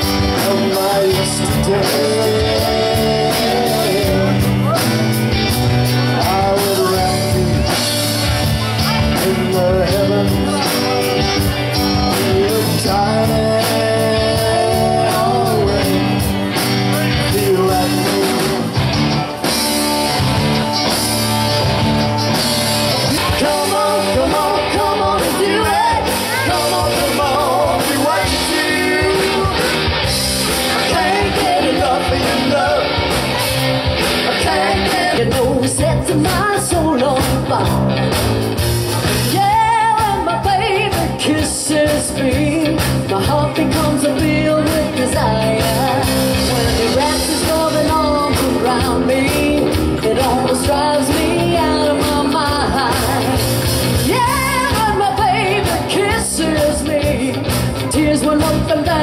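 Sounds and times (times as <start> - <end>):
person singing: 0.0 - 19.6, 22.9 - 38.1, 39.2 - 59.0
rock band playing live: 0.0 - 59.0.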